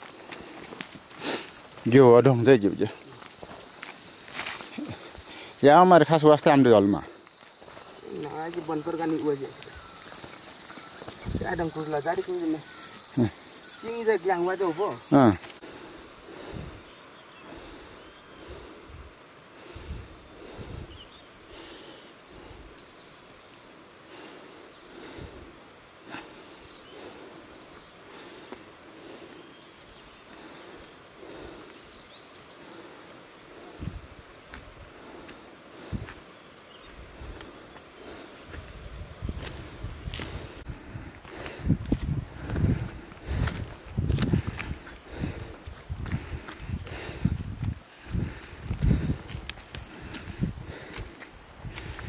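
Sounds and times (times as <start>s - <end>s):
insects chorus: 0.0s - 52.0s.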